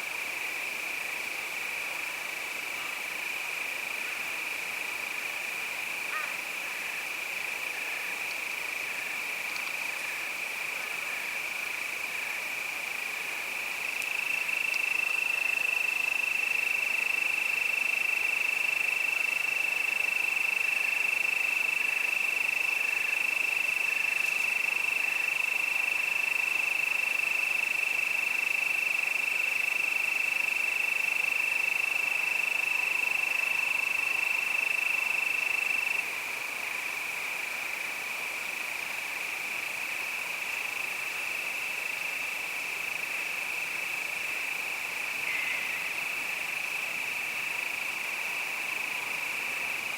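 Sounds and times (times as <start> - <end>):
crickets trilling: 0.1 - 49.9.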